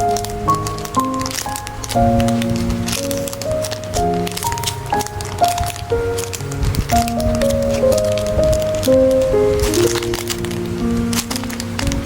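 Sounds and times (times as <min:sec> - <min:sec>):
background music with held notes: 0:00.0 - 0:12.0
crackling squishing noises: 0:00.0 - 0:12.0.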